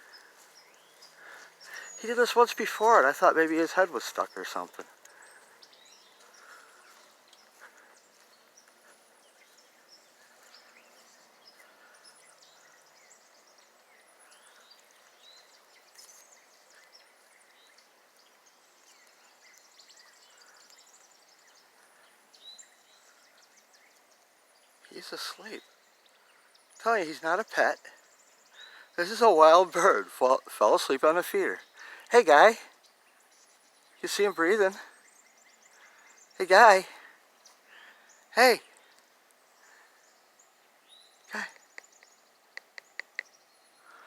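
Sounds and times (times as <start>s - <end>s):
distant birdsong chirps: 0.0s - 44.0s
outdoor background hiss: 0.0s - 44.0s.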